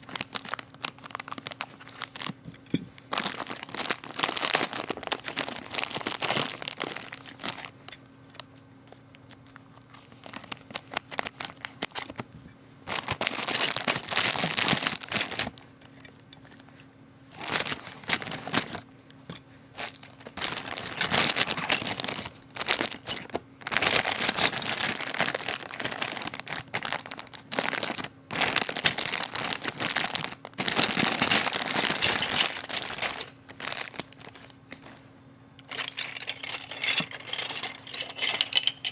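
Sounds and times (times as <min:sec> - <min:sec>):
plastic bags crinkling: 0:00.0 - 0:08.5, 0:09.9 - 0:12.2, 0:12.9 - 0:16.0, 0:17.3 - 0:18.8, 0:19.8 - 0:38.9.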